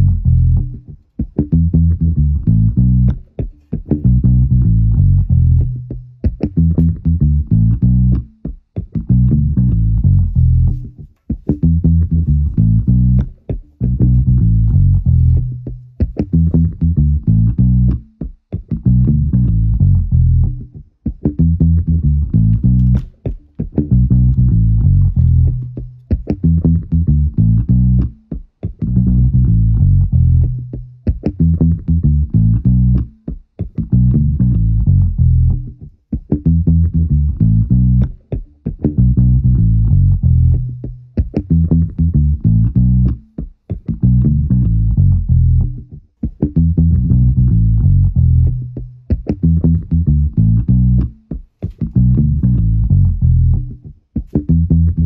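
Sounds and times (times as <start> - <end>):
bass guitar instrumental music: 0.0 - 55.0
plucked guitar: 0.0 - 55.0.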